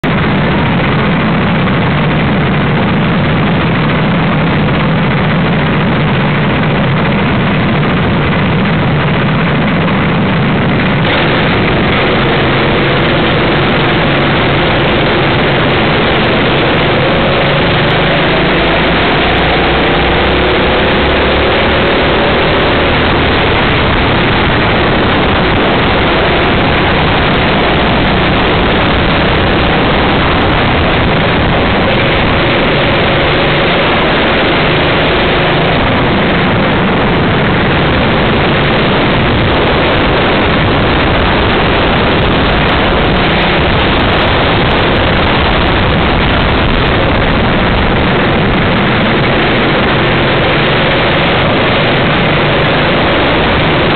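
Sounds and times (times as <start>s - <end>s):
loud rushing noise: 0.0s - 53.9s
go-kart engines accelerating: 0.1s - 53.9s.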